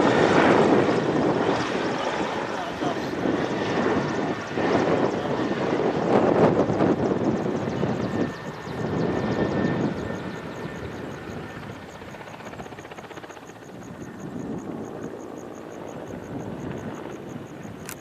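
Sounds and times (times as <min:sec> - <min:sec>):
aircraft passing overhead: 0:00.0 - 0:18.0.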